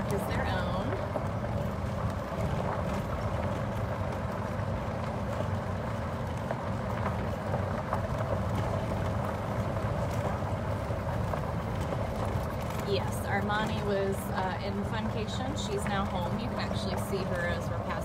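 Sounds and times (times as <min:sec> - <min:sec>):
golf cart driving on dirt road: 0:00.0 - 0:18.0.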